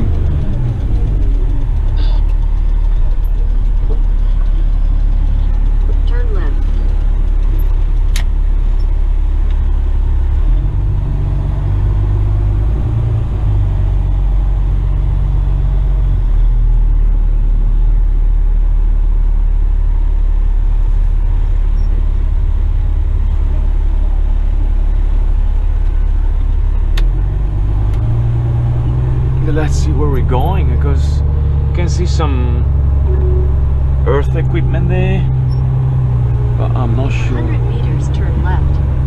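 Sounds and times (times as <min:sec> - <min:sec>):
diesel truck engine rumbling: 0:00.0 - 0:39.0.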